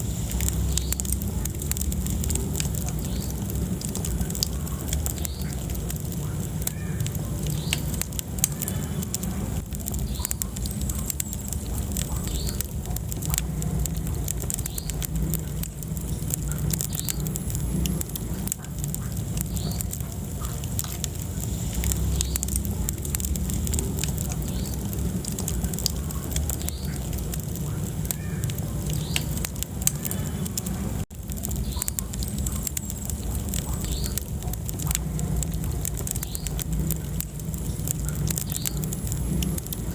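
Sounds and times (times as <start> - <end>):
fire crackling and popping: 0.0 - 39.9
wood fire flames rumbling: 0.0 - 39.9.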